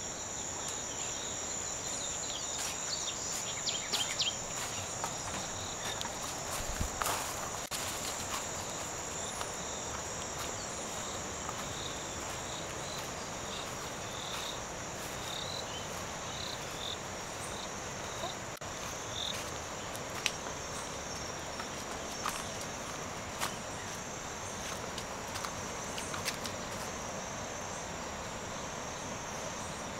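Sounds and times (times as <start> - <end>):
insect chorus: 0.0 - 29.9.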